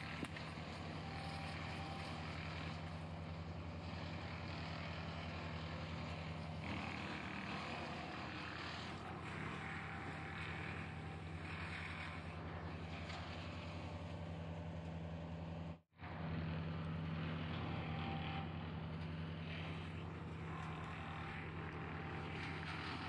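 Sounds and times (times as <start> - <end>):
chainsaw cutting wood: 0.0 - 23.0.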